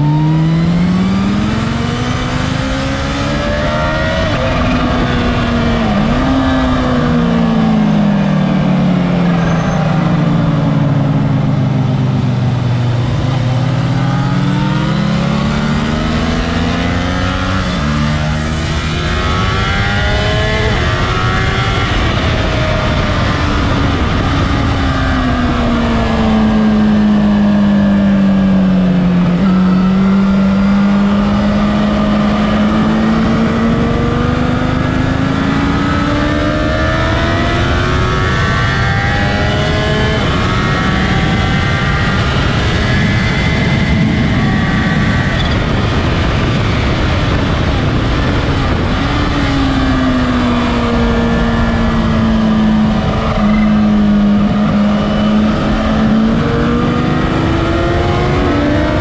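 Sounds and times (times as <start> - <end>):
motorcycle engine accelerating: 0.0 - 59.0
wind rush: 0.0 - 59.0.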